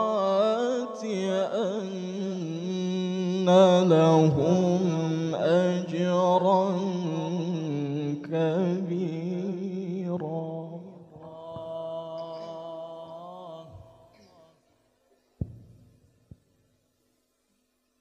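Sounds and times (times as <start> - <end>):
man reciting melismatic chant: 0.0 - 14.6.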